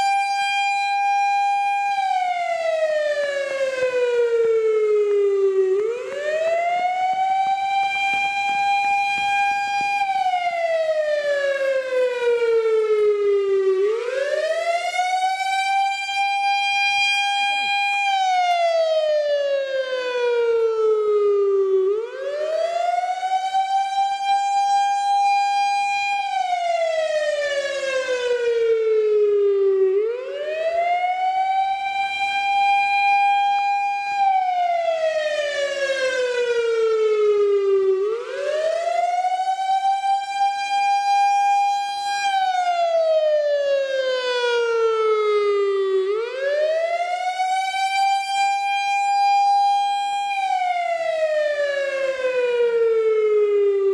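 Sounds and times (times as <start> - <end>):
warning siren wailing: 0.0 - 53.9.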